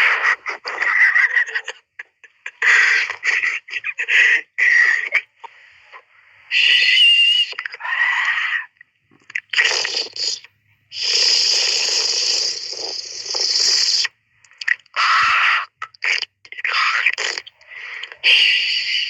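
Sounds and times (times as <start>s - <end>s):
cat hissing: 0.0s - 5.3s, 6.5s - 8.7s, 9.5s - 19.0s.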